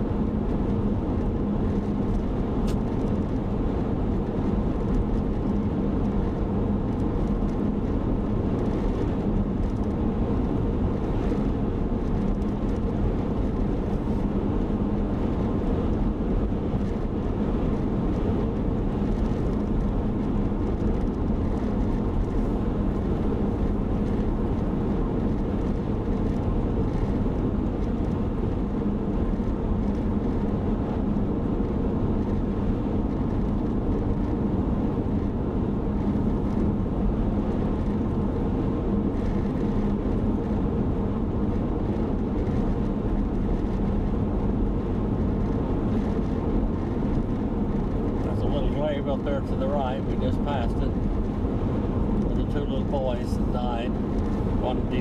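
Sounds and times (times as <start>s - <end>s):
car cabin road noise: 0.0s - 55.0s.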